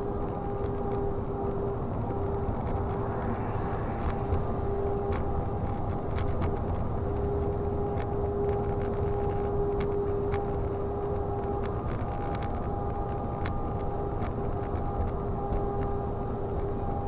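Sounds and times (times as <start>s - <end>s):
constant whine: 0.0s - 17.0s
engine and road rumble: 0.0s - 17.0s.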